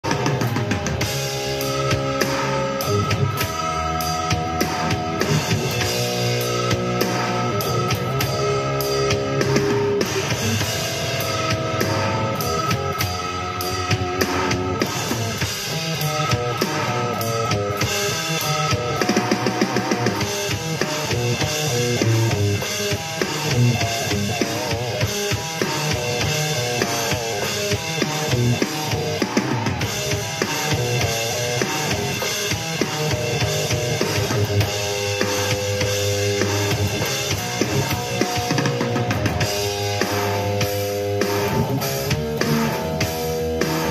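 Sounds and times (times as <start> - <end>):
drum kit: 0.0 - 43.9
electric guitar: 0.0 - 43.9
metal music: 0.0 - 43.9.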